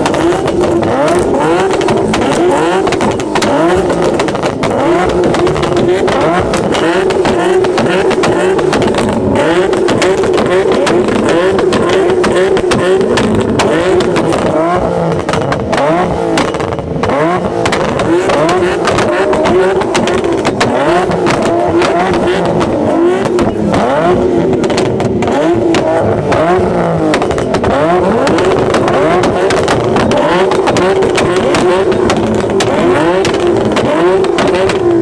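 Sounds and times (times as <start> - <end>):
car engines revving: 0.0 - 35.0
exhaust pops crackling: 0.0 - 35.0.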